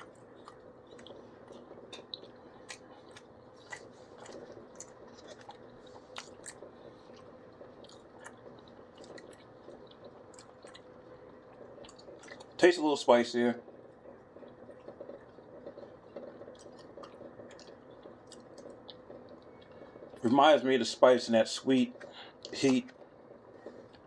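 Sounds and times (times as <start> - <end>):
person chewing food: 0.0 - 12.6, 13.7 - 20.2, 21.9 - 24.0
faint steady hum: 0.0 - 24.0.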